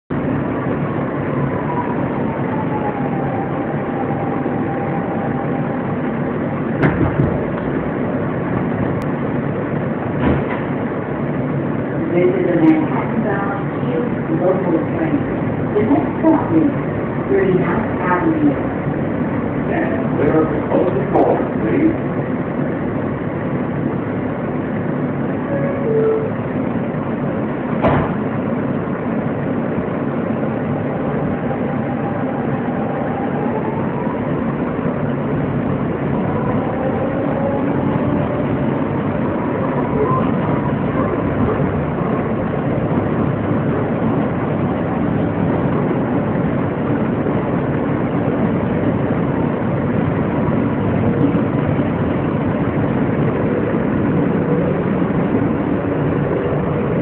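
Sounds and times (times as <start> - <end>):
wheels rumbling on rails: 0.0 - 57.0.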